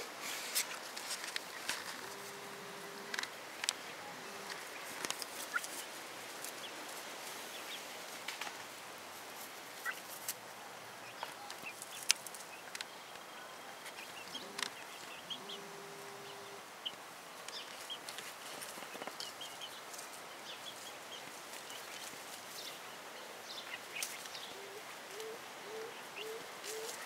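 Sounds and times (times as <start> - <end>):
chicken peeping and clucking: 1.5 - 8.4, 9.7 - 10.4, 11.0 - 22.9, 23.5 - 27.0.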